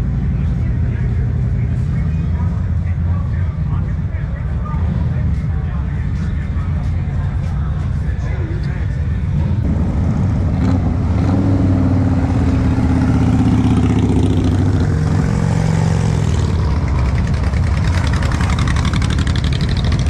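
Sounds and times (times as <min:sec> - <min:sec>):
motorcycle engines at low revs: 0:00.0 - 0:20.0.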